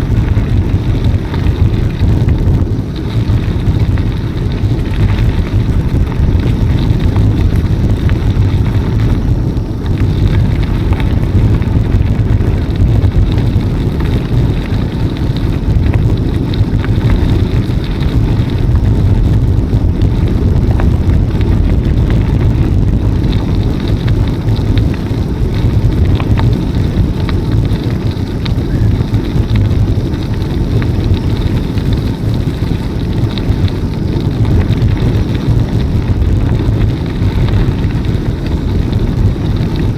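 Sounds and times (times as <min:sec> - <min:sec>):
bicycle ticks and rattles: 0:00.0 - 0:39.9
wind buffeting microphone: 0:00.0 - 0:39.9.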